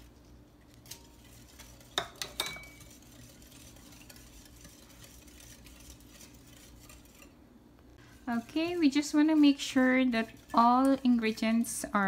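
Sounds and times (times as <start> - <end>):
whisk stirring in glass bowl: 0.1 - 12.0.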